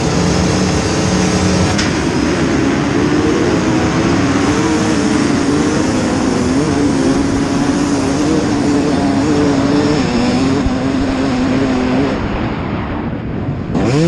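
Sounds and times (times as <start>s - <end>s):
motocross engines revving: 0.0s - 12.8s, 13.5s - 14.0s.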